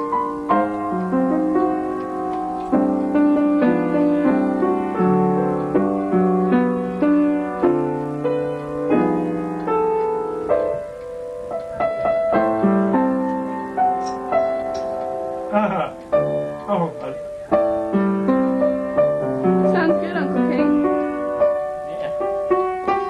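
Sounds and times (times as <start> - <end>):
slow gentle piano: 0.0 - 23.0.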